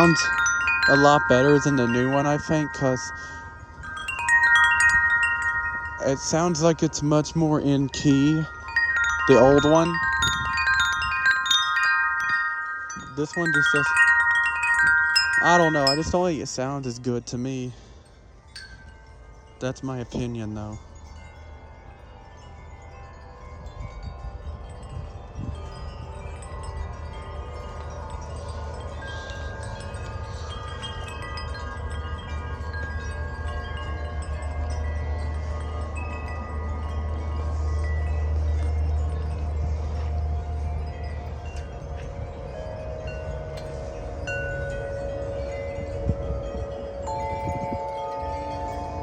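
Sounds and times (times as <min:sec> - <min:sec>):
wind chimes ringing: 0:00.0 - 0:49.0.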